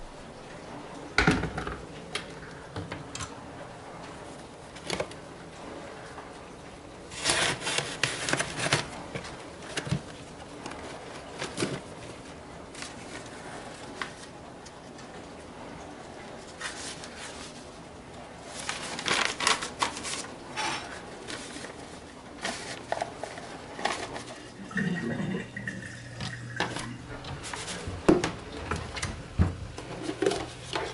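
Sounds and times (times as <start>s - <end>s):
paper filters rustling: 0.0s - 24.6s, 26.2s - 30.9s.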